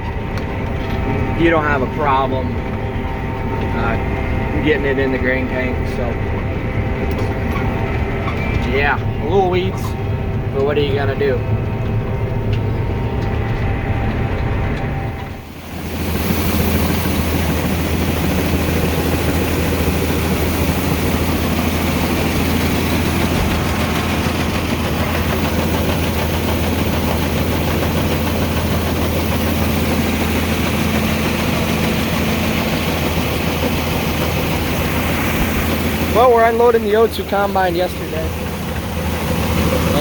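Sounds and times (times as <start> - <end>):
diesel engine running steadily: 0.0 - 40.0.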